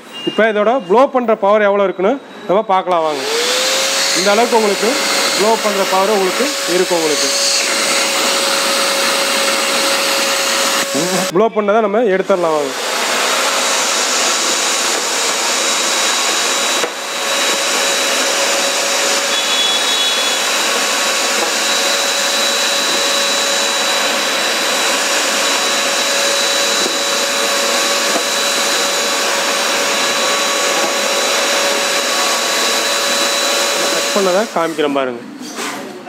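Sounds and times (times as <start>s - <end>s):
vacuum cleaner whine: 2.4s - 11.4s, 12.2s - 35.0s.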